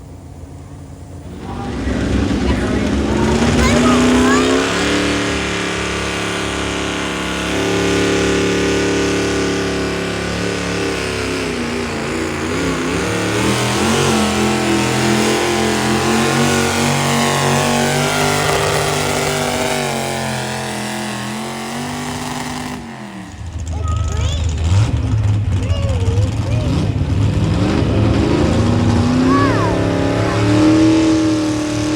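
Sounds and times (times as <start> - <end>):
pulling vehicle engine at high revs: 0.0 - 31.9.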